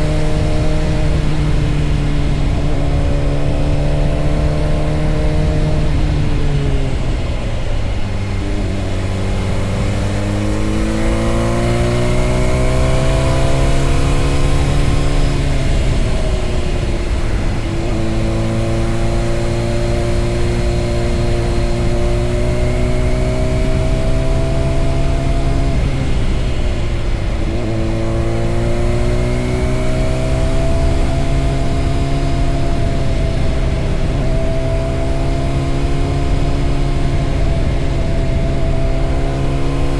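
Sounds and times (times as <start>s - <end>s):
motorcycle engine shifting gears: 0.0s - 39.9s
wind noise: 0.0s - 39.9s.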